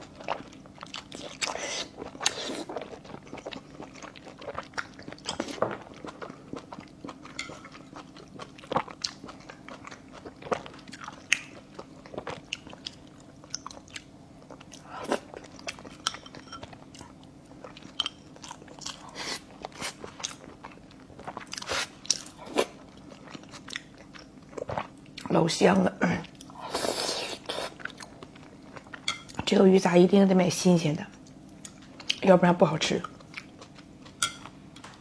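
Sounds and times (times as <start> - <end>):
person chewing food: 0.0 - 25.3, 26.2 - 29.4, 31.2 - 32.2, 33.1 - 35.0.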